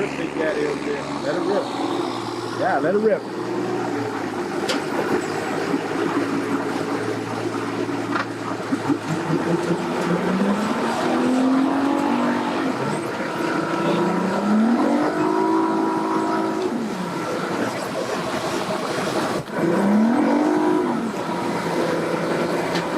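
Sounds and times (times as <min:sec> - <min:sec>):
outboard motor revving: 0:00.0 - 0:22.9.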